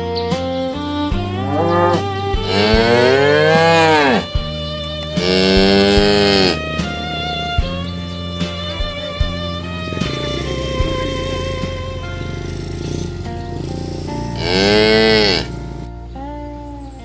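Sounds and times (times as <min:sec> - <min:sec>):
background music: 0:00.0 - 0:17.0
cattle mooing: 0:01.2 - 0:04.4, 0:05.0 - 0:16.0.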